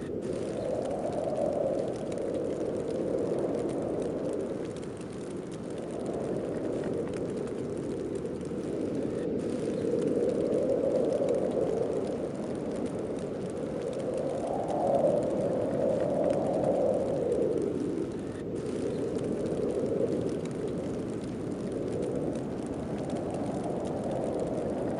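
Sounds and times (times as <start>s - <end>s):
snowstorm wind gusting: 0.0s - 24.9s.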